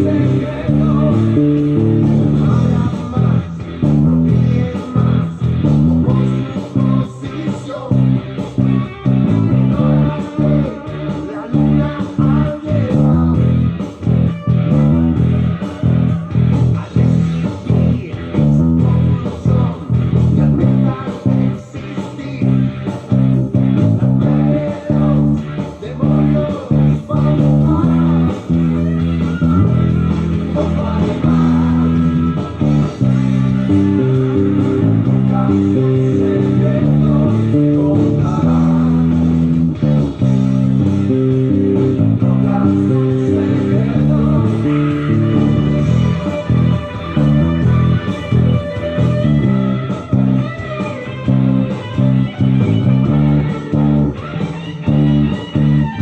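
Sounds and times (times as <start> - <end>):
electric bass guitar riff: 0.0 - 56.0.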